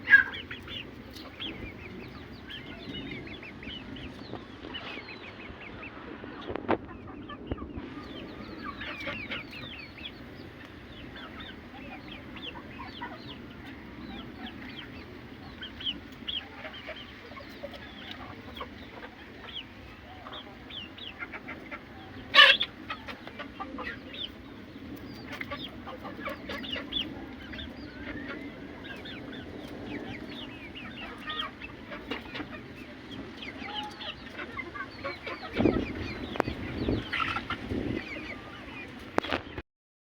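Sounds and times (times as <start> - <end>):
chickens clucking: 0.0 - 39.6.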